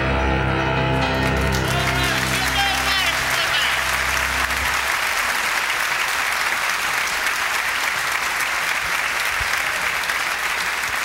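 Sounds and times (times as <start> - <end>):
large audience applauding: 1.0 - 11.0.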